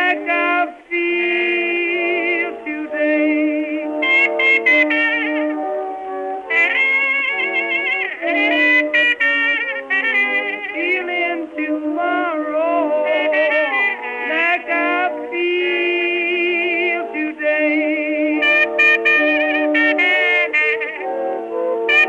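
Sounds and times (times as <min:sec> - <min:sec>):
held accompanying notes: 0:00.0 - 0:22.0.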